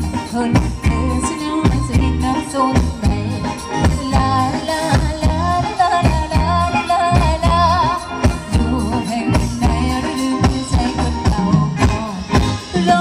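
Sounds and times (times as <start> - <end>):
live band dance music: 0.0 - 13.0.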